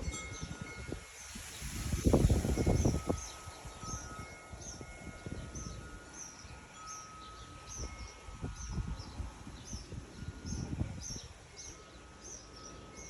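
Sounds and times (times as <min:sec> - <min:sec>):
small birds chirping: 0:01.2 - 0:13.0.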